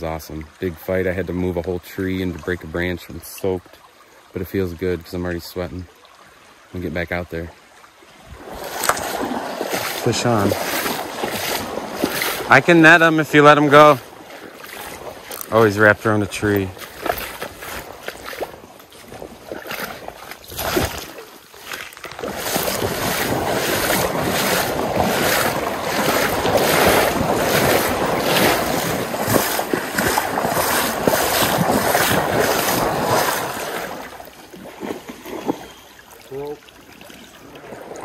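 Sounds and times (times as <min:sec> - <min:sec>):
wading through shallow water: 0:00.0 - 0:38.0.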